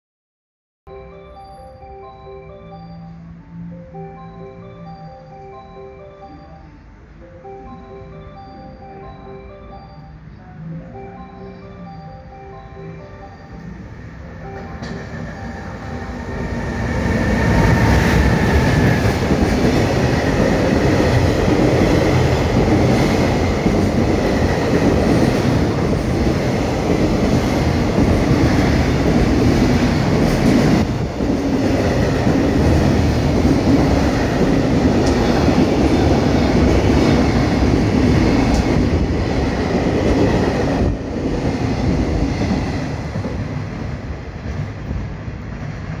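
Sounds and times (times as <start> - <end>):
freight train rumbling past: 3.3 - 46.0.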